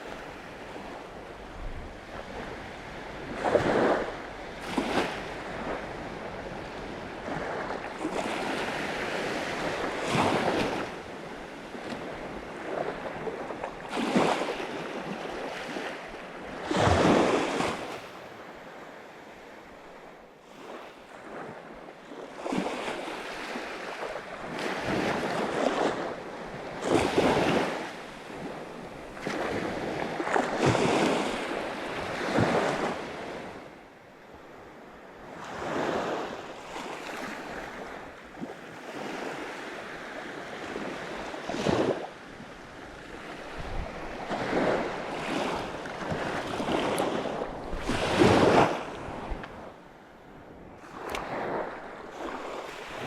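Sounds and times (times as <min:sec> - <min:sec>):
sea waves breaking on shore: 0:00.0 - 0:53.0.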